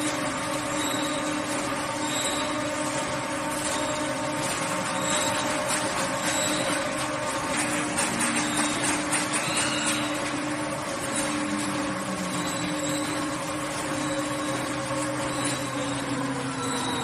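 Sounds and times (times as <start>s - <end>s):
machinery and conveyors whirring: 0.0s - 17.0s.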